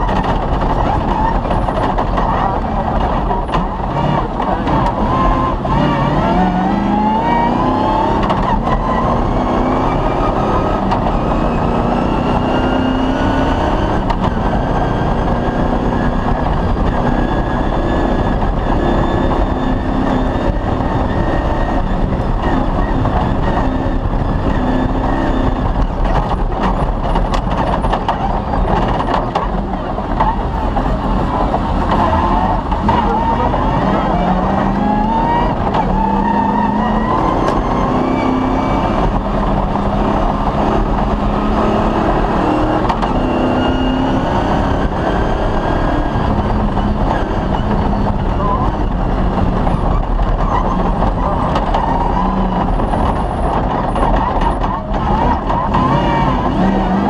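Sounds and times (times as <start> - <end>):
rally car engine: 0.0 - 57.0
road and chassis noise: 0.0 - 57.0.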